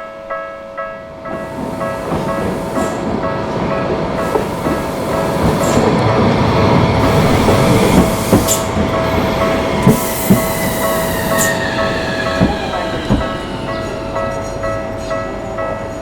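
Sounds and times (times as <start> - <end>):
crossing warning bell ringing: 0.0 - 16.0
train wheels knocking over rail joints: 1.2 - 14.4.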